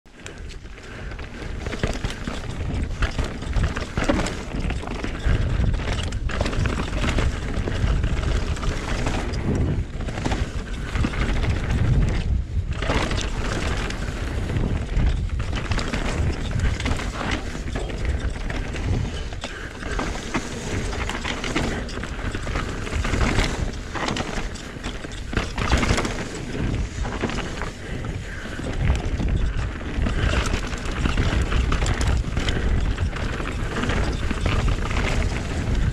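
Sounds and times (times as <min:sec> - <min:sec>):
bike rattling over rocks: 0:00.1 - 0:35.9
bike tyres rolling over dirt: 0:00.1 - 0:35.9
wind buffeting microphone: 0:00.1 - 0:35.9.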